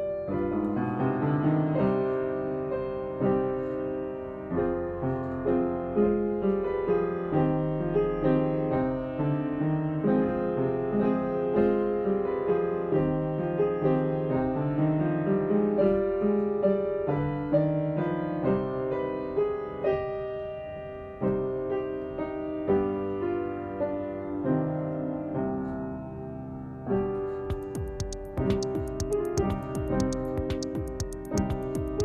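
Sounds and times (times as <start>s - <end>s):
piano-like keyboard notes: 0.0s - 32.0s.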